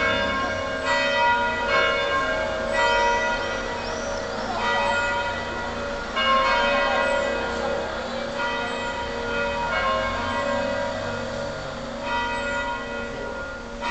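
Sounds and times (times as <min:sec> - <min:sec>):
church bell ringing: 0:00.0 - 0:13.9.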